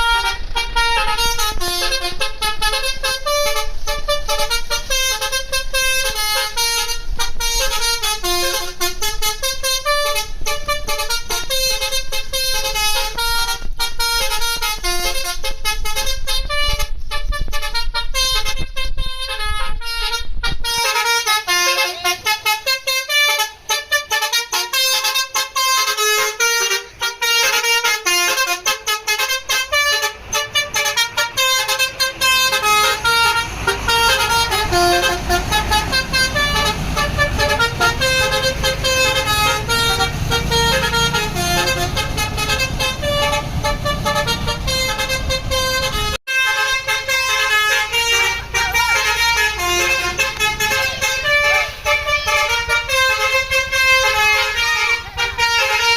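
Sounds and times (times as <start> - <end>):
bus engine rumble: 0.0 - 55.9
bus horn playing melody: 0.0 - 55.9.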